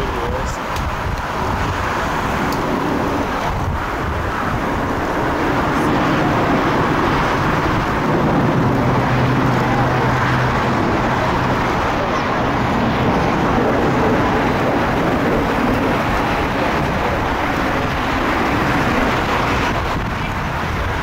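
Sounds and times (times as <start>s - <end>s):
jet engine noise: 0.0s - 21.0s.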